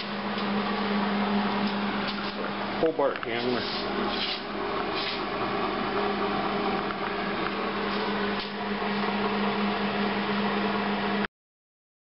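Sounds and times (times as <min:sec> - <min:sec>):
fan-like rushing noise: 0:00.0 - 0:10.4
electric motor hum: 0:00.0 - 0:11.3.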